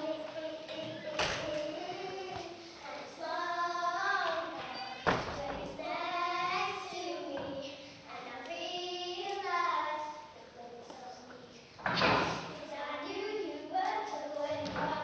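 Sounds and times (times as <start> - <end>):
girls singing: 0.0 - 15.0.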